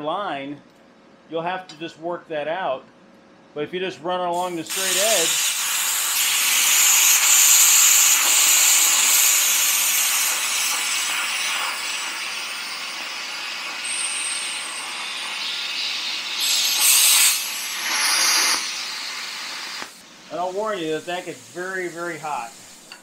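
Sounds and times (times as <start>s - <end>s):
plasma cutter hissing: 4.4s - 23.0s.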